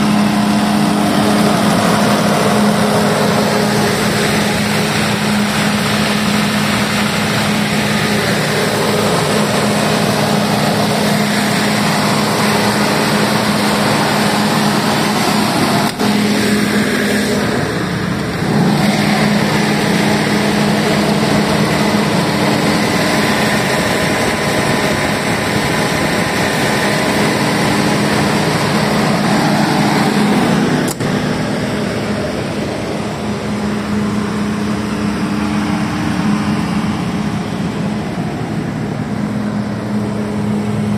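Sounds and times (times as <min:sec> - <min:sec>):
diesel generator running: 0:00.0 - 0:40.9.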